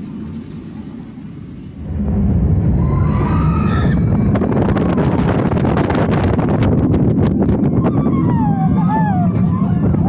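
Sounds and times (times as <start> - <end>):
roller coaster rumbling on track: 0.0 - 10.0
rising whine: 1.7 - 10.0.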